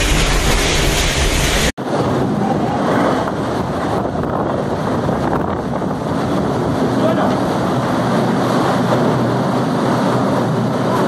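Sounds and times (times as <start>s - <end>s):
heavy rain: 0.0s - 11.0s
storm wind: 0.0s - 11.0s
wind buffeting microphone: 0.0s - 11.0s.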